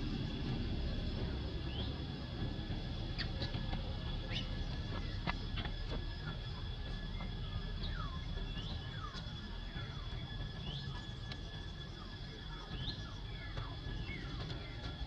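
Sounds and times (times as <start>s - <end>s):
low wind-like rumble: 0.0s - 15.0s
small birds chirping: 0.0s - 15.0s
steady high-pitched whine: 0.0s - 15.0s.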